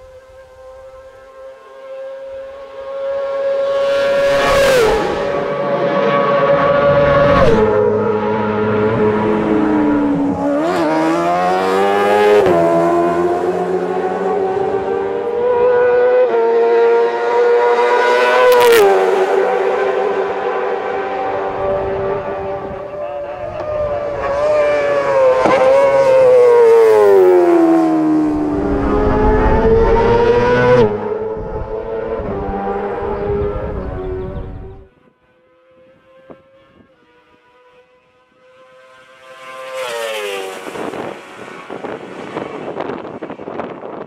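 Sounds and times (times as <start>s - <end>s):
racing engine at high revs: 0.0s - 44.0s.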